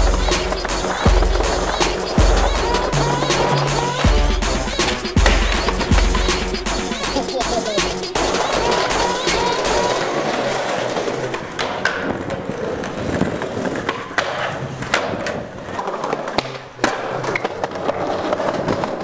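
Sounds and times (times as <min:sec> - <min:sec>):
skateboard clacks: 0:00.0 - 0:19.0
skateboard wheels rolling on concrete: 0:00.0 - 0:19.0.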